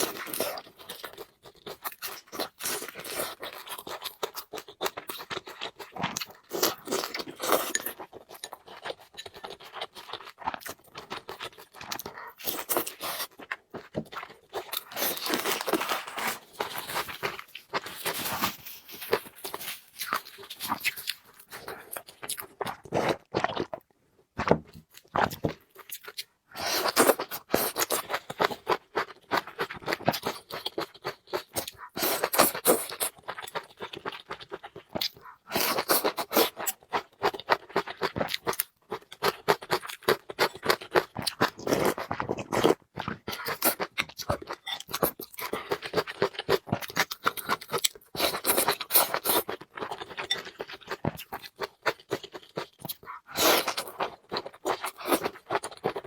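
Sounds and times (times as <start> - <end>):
person chewing food crunchily: 0.0 - 56.0.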